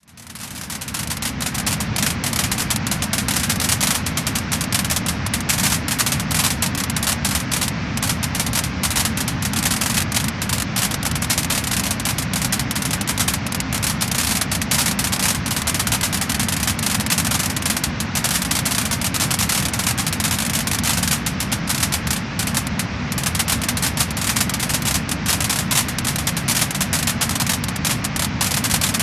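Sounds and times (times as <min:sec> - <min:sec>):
wood fire crackling and popping: 0:00.0 - 0:29.0
low rush of burning: 0:00.1 - 0:29.0.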